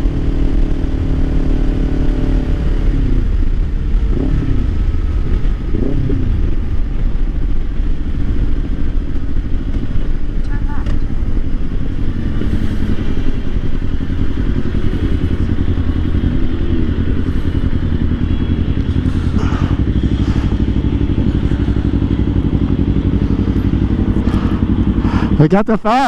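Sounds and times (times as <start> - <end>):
motorcycle engine running at low revs: 0.0 - 26.0.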